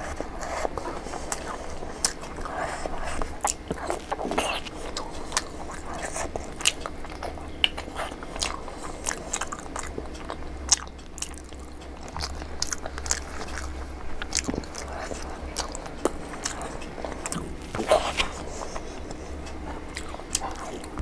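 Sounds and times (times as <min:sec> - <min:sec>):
crunching and chewing: 0:00.0 - 0:21.0
low steady hum: 0:00.0 - 0:21.0.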